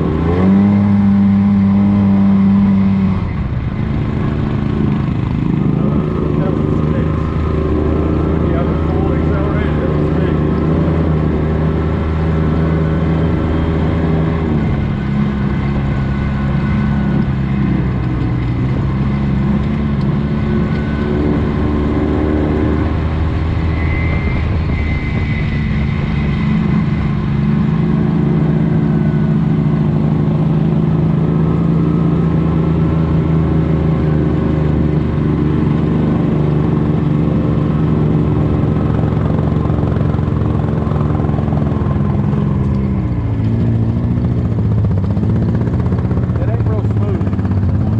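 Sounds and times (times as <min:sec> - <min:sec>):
off-road vehicle engine running: 0:00.0 - 0:47.9.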